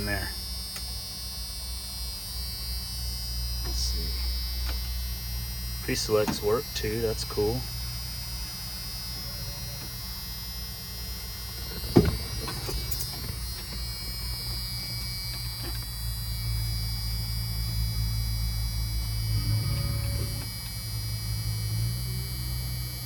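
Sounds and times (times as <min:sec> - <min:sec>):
radio electrical hum and buzz: 0:00.0 - 0:23.0.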